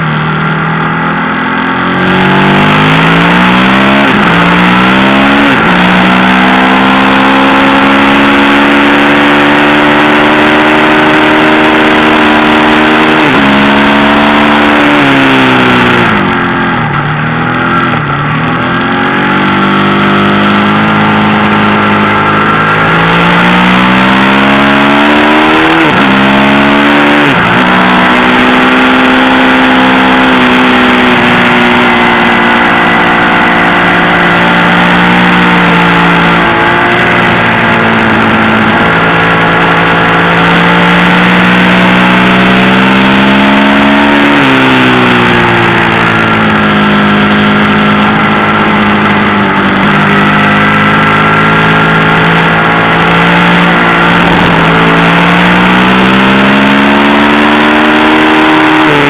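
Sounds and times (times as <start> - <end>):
motorcycle engine revving through gears: 0.0 - 59.0.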